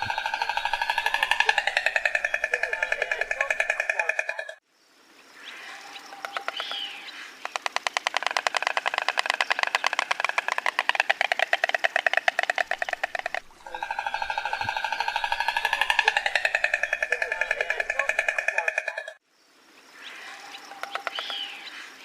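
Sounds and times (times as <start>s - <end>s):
stork clattering its bill: 0.0s - 4.6s, 6.2s - 19.2s, 20.7s - 21.6s.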